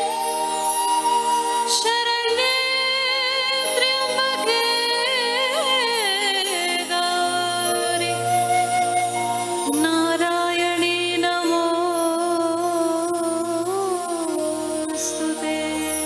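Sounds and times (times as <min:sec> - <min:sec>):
woman singing through microphone: 0:00.0 - 0:16.0.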